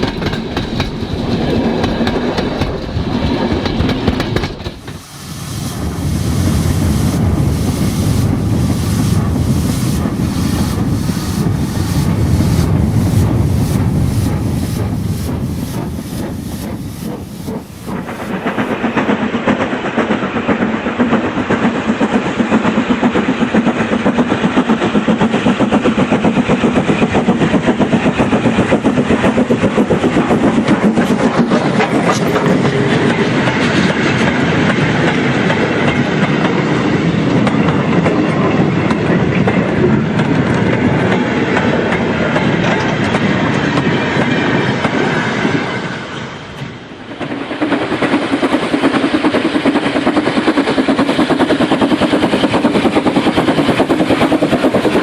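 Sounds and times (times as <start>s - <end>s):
model train wheels clickety-clack: 0.0s - 55.0s.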